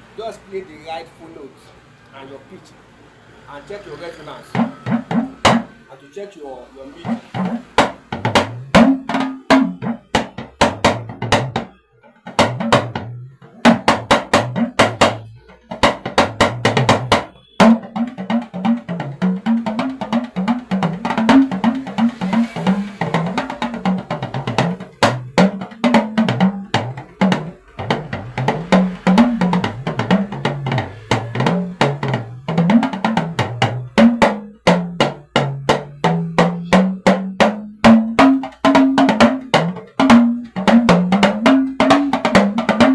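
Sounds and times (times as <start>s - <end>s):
talking drum played with stick: 4.5s - 5.8s, 7.0s - 42.9s.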